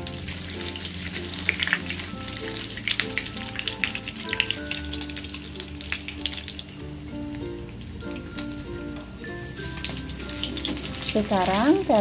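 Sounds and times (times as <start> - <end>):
eggplant slices frying in oil: 0.0 - 12.0.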